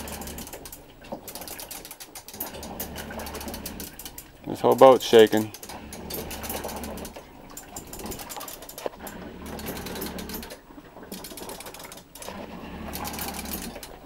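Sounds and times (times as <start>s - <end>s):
low motor hum: 0.0s - 1.1s, 2.3s - 11.6s, 12.2s - 14.0s
fast mechanical rattle: 0.0s - 14.0s.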